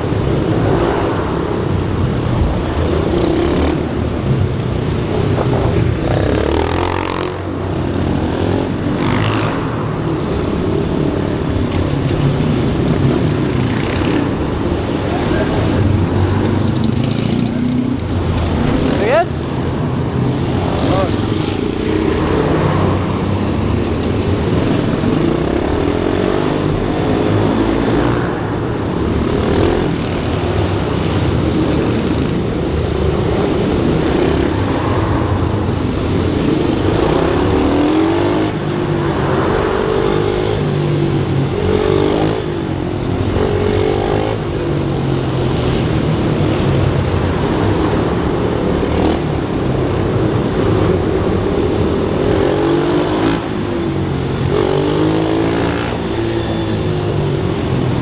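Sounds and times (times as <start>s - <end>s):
pit bike engines revving: 0.0s - 58.0s.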